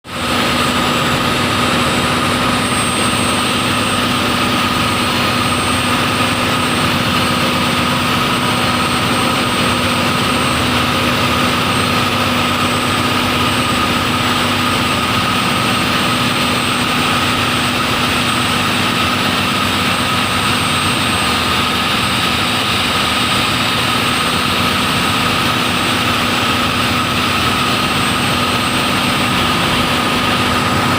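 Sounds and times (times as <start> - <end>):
marine diesel engine droning: 0.1 - 30.9.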